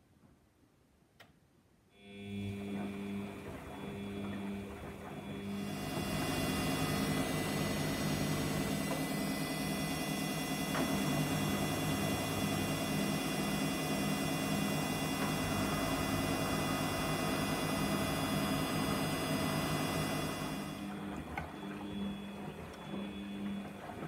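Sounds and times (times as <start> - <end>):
washing machine spinning: 2.0 - 24.0.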